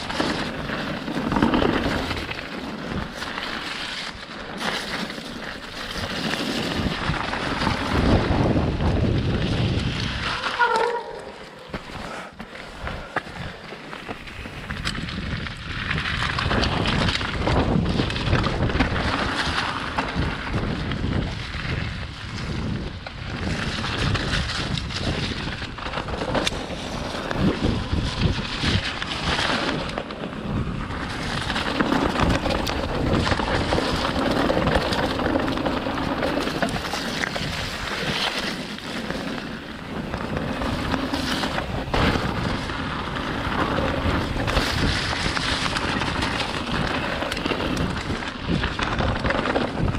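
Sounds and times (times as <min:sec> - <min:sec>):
bike rattling and knocking: 0:00.0 - 0:49.9
tyres crunching over gravel: 0:00.0 - 0:49.9
wind on microphone: 0:05.9 - 0:12.1, 0:14.4 - 0:49.9.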